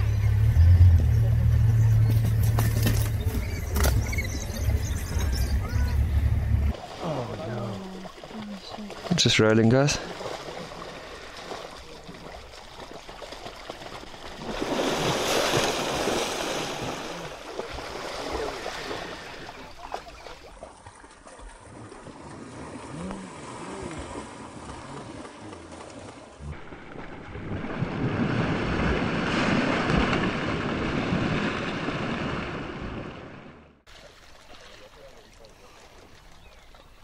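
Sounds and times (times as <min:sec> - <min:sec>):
water churning and splashing: 0:02.0 - 0:37.0.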